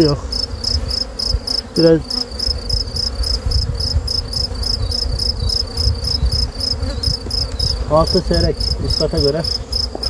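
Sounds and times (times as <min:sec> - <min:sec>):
honeybees humming: 0:00.0 - 0:10.0.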